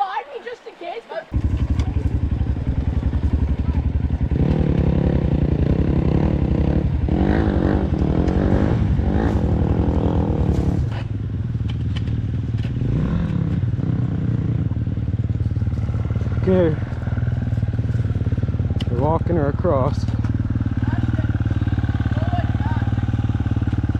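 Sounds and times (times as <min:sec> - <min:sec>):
dirt bike engine revving: 0:01.3 - 0:23.9.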